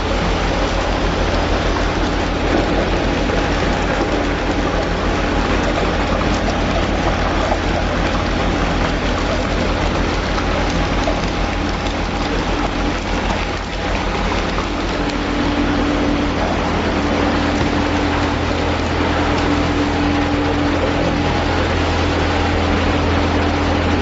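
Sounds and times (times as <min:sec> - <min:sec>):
drive motor hum: 0:00.0 - 0:24.0.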